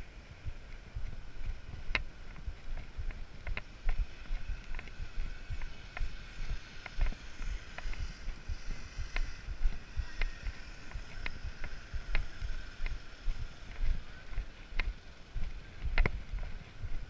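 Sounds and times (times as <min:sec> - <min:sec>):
footsteps on dry leaves and twigs: 0:00.0 - 0:17.0
wind rumbling on microphone: 0:00.0 - 0:17.0.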